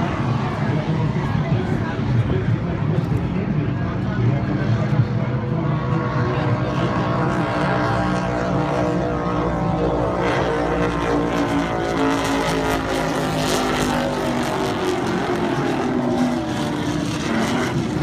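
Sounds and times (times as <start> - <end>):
passing craft engines droning: 0.0 - 18.0.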